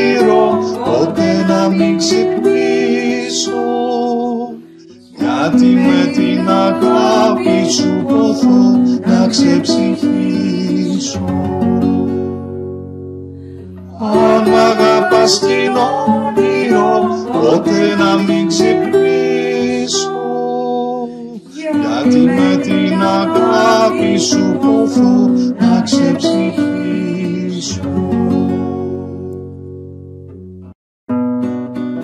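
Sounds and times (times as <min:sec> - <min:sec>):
acoustic guitar playing: 0:00.0 - 0:32.0.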